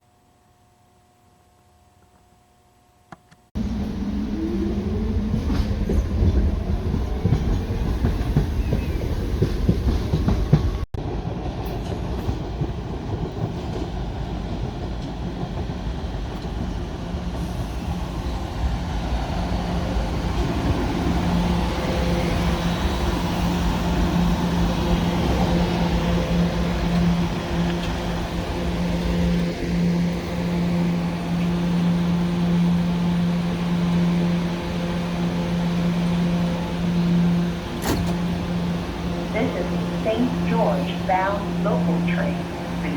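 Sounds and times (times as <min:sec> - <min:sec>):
electric train rumbling on track: 0:03.6 - 0:42.9.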